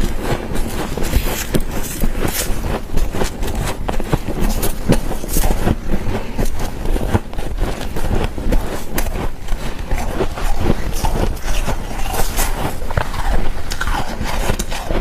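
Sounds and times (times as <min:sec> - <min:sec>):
frost crunching: 0:00.0 - 0:15.0.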